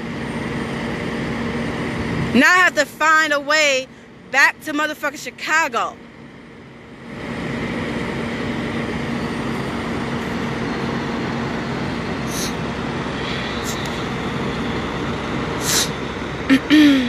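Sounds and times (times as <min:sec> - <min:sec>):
constant low hum: 0:00.0 - 0:17.0
idling trucks drone: 0:00.0 - 0:17.0.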